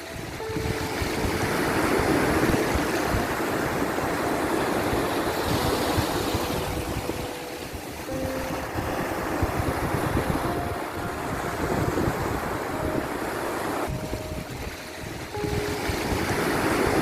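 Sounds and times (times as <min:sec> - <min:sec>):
ocean waves washing in: 0:00.0 - 0:17.0
soft held melody notes: 0:00.0 - 0:17.0.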